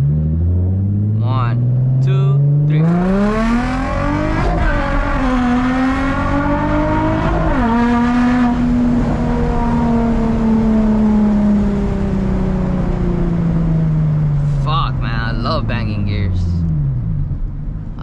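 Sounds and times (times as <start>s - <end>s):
car engine revving through gears: 0.0s - 15.3s.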